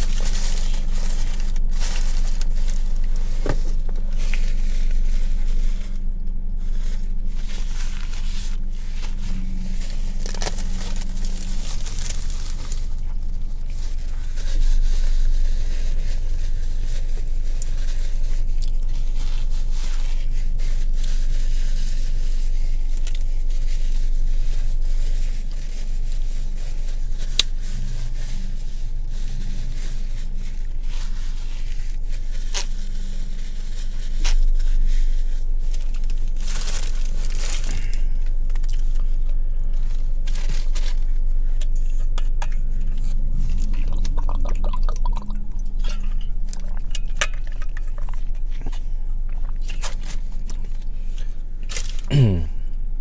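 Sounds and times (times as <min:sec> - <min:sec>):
paper wrapper crinkling and tearing: 0:00.0 - 0:52.5
steady low hum: 0:00.0 - 0:53.0.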